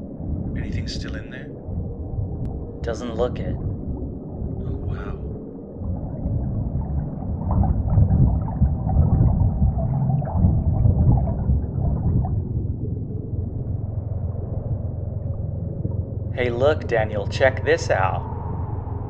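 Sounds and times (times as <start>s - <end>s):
underwater low rumble: 0.0s - 19.0s
water gurgling: 0.3s - 19.0s.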